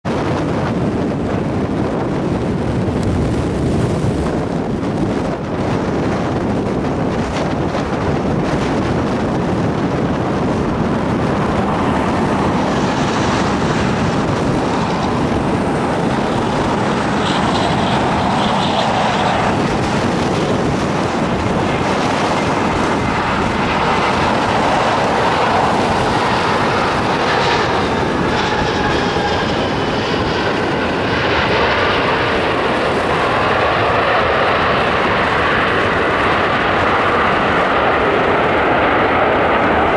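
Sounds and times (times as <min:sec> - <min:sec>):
gusty wind on microphone: 0:00.0 - 0:39.9
jet engine rumble: 0:00.0 - 0:39.9
jet engine whine: 0:00.0 - 0:39.9.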